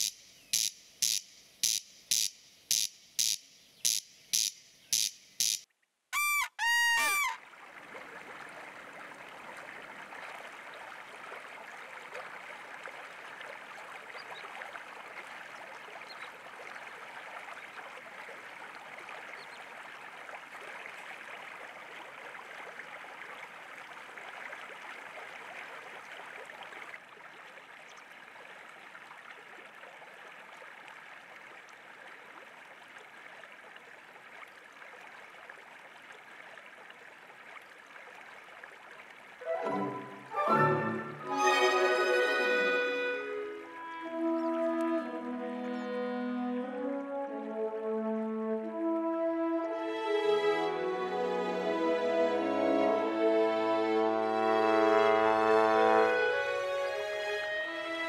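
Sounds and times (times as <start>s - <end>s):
running water: 6.2s - 58.0s.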